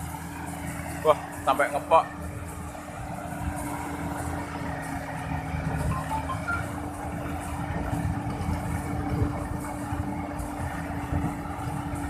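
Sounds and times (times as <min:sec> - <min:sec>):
combine harvester diesel engine running: 0:00.0 - 0:12.0.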